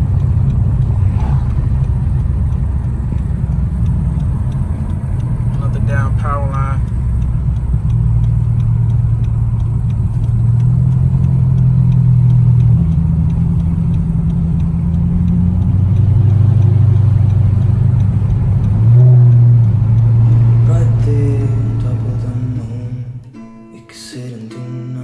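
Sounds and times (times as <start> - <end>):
car engine drone inside car: 0.0 - 23.3.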